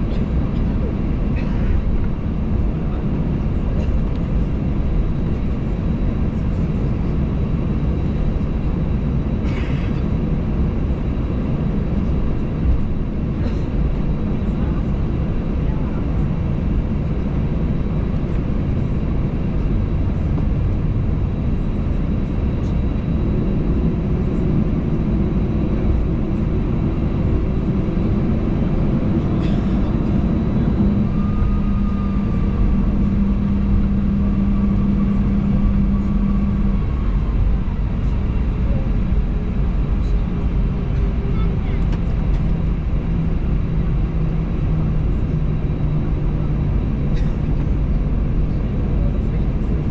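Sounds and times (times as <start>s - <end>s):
idling jet engines rumble: 0.0s - 49.9s
steady hum: 0.0s - 49.9s.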